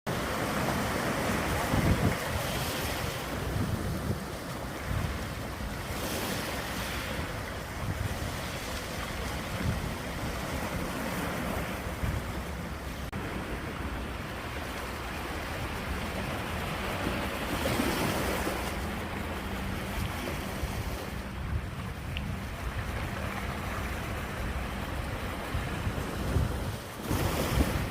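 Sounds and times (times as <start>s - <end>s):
ocean waves breaking: 0.1s - 27.9s.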